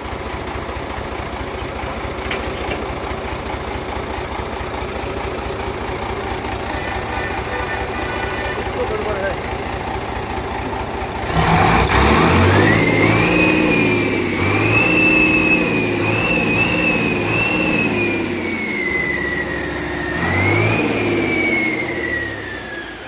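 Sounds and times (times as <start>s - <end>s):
diesel engine revving: 0.0s - 23.0s
high engine whine: 1.6s - 23.0s.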